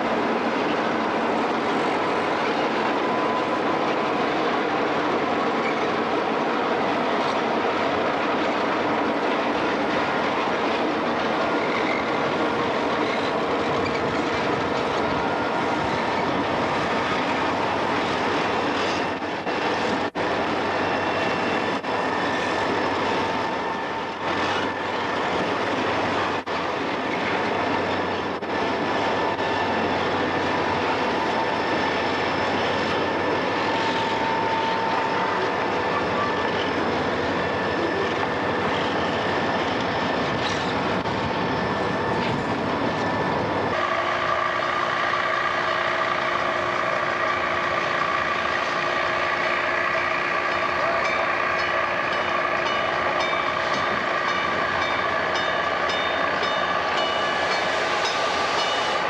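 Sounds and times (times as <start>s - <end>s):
diesel locomotives running: 0.0s - 59.0s
train rolling on rails: 0.0s - 59.0s.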